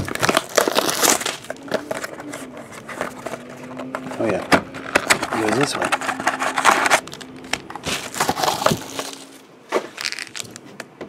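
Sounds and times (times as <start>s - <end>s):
cardboard scraping: 0.0s - 10.6s
foil packs rustling: 0.0s - 10.8s.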